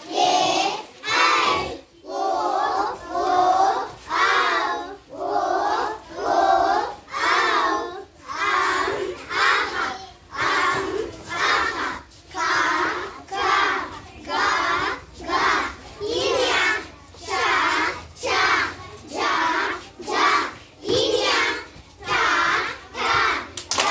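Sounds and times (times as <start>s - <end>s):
children chanting in unison: 0.0s - 23.9s.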